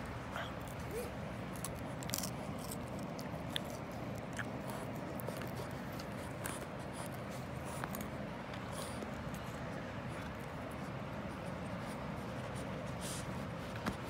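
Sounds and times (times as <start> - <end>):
dog chewing crunchy stem: 0.0 - 14.0.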